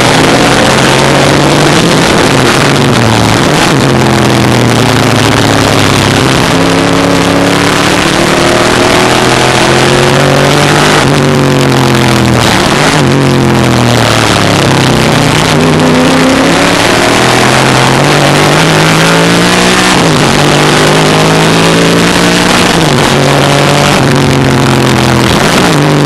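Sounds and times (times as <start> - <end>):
race car engine full throttle: 0.0 - 26.0.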